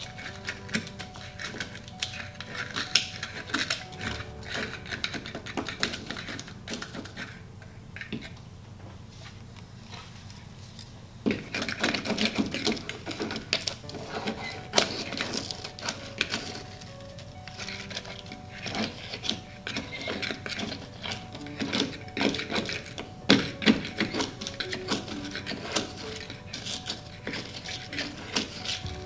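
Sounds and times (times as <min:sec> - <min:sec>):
spatula scraping inside bottle: 0:00.0 - 0:07.4, 0:11.3 - 0:29.0.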